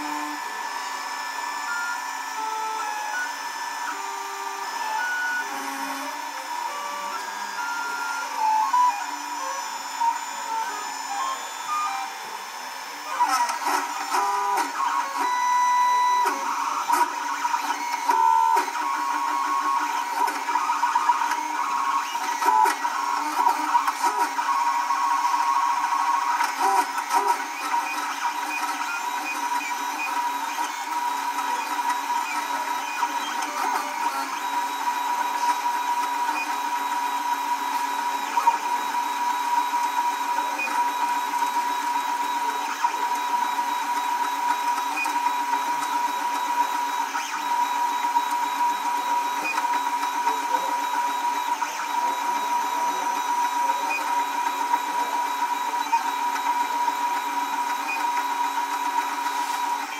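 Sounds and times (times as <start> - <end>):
stepper motors whirring: 0.0 - 59.9.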